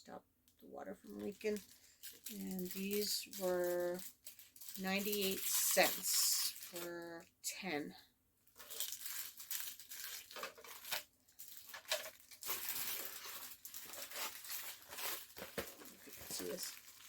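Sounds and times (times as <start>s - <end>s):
plastic packaging crinkling: 1.0s - 7.2s, 8.5s - 17.0s.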